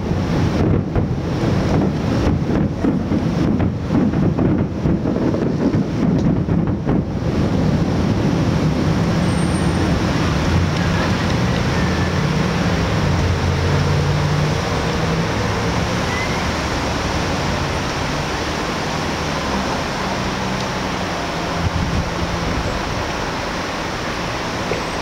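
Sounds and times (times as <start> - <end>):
firework bursts: 0.0 - 25.0.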